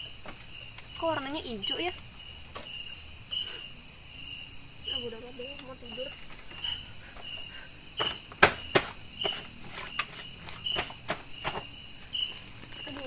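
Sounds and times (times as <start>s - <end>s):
insect chorus buzzing: 0.0s - 13.0s
short insect chirp: 0.0s - 13.0s.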